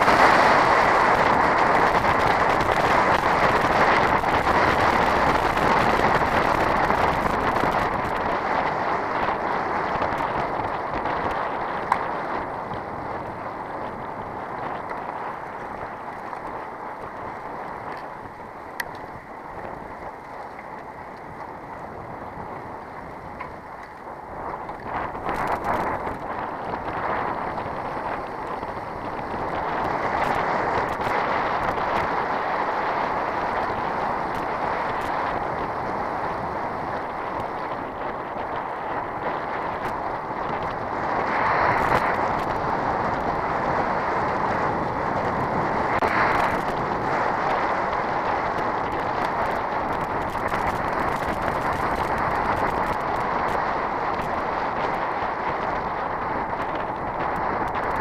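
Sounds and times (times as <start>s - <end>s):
bicycle wind and tyre noise: 0.0s - 58.0s.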